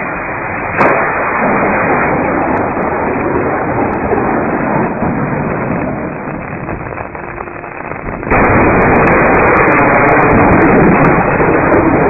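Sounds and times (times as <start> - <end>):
loud thunder clap: 0.0 - 12.0
sharp crackles: 0.0 - 12.0.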